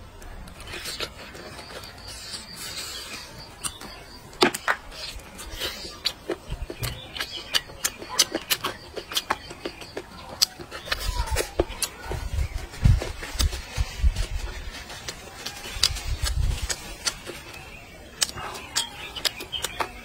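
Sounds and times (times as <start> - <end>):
wet chewing clicks and smacks: 0.2 - 20.0.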